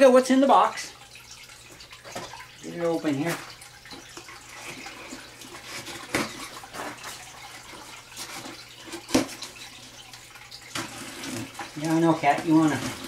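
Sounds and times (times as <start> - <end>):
water trickling from pump outflow: 0.0 - 13.0.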